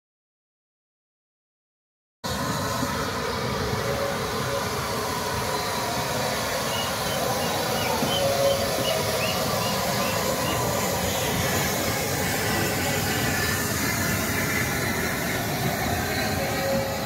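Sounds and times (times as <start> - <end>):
steam hissing: 2.3 - 17.0
train rumble: 2.3 - 17.0.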